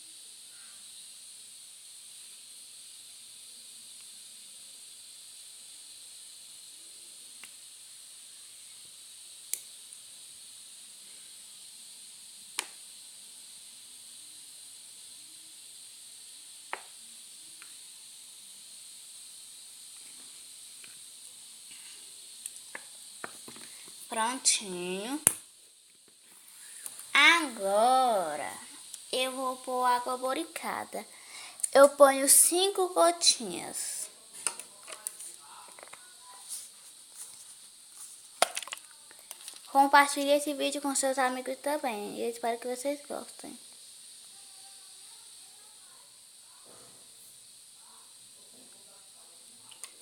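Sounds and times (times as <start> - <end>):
faint high-pitched hiss: 0.0 - 50.0.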